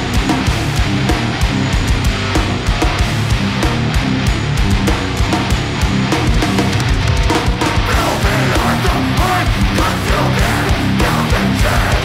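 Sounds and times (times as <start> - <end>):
bass guitar: 0.0 - 12.0
distorted electric guitar: 0.0 - 12.0
rapid drum hits: 0.0 - 12.0.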